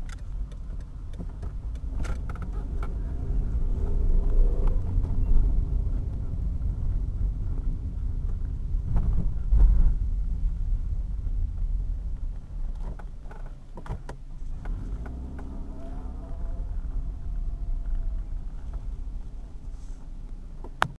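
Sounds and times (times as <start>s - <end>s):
engine and road noise: 0.0s - 20.9s.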